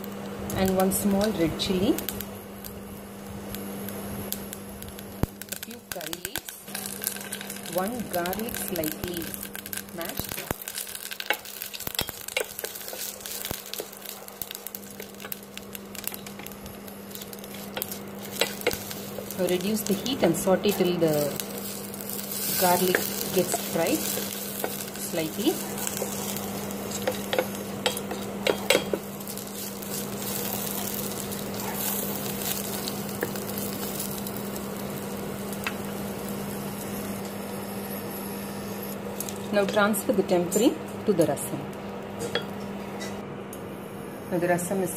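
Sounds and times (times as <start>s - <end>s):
crackles and pops: 0.0s - 39.8s
spices sizzling in hot oil: 0.0s - 42.7s
steady low hum: 0.0s - 44.9s.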